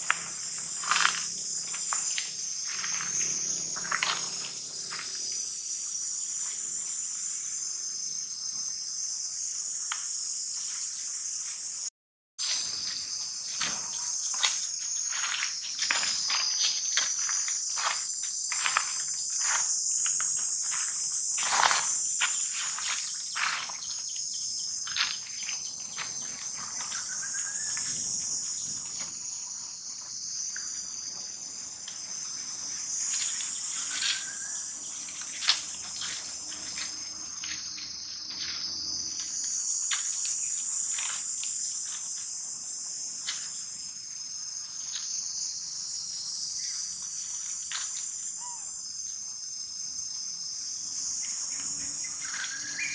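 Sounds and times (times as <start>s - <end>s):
high-pitched insect chorus: 0.0s - 52.9s.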